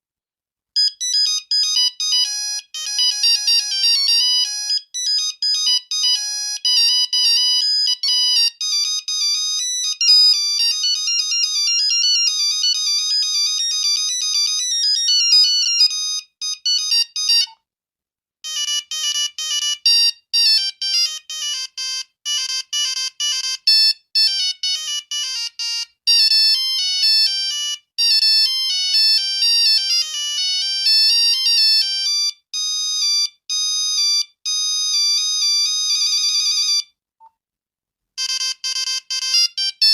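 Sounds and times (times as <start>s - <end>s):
monophonic phone ringtone: 0.8s - 17.6s, 18.4s - 37.0s, 38.2s - 39.9s.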